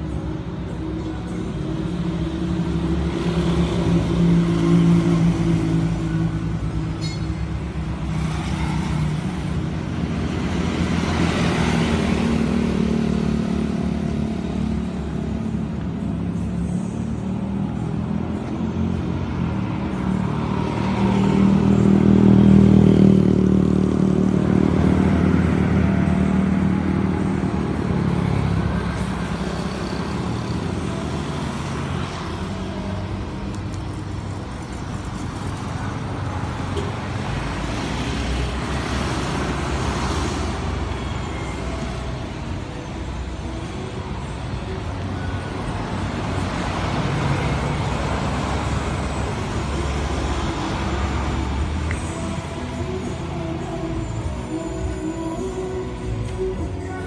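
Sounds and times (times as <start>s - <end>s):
street traffic: 0.0s - 57.0s.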